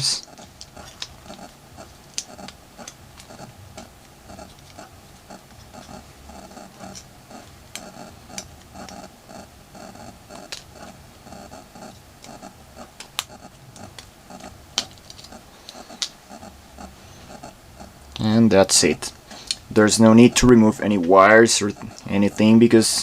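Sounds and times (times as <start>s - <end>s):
soft regular ticking: 0.0s - 23.0s.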